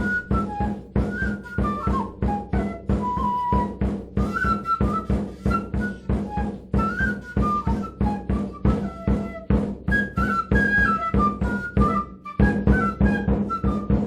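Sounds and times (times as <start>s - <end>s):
drum beat: 0.0s - 14.0s
flute-like melody: 0.0s - 14.0s.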